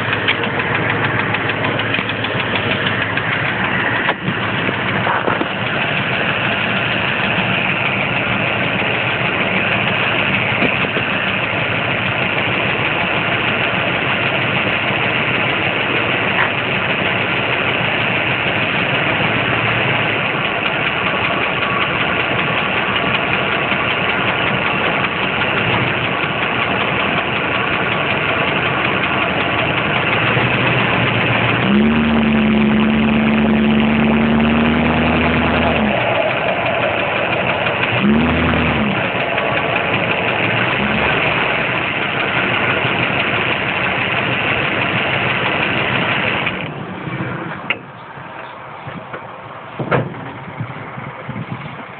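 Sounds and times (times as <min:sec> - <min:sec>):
engine running with ticking: 0:00.0 - 0:51.9
loud steady hum: 0:00.0 - 0:51.9.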